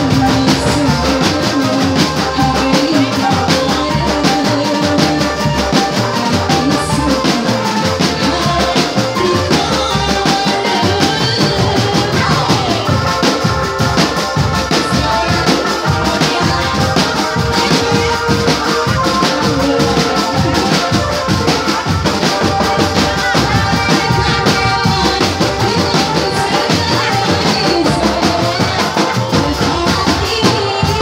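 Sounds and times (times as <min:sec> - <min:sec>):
marching drums beating: 0:00.0 - 0:31.0
trumpet melody: 0:00.0 - 0:31.0.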